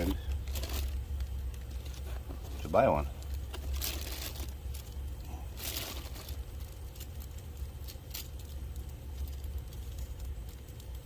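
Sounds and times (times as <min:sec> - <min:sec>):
packaging rustle: 0:00.0 - 0:11.0
steady low rumble: 0:00.0 - 0:11.0.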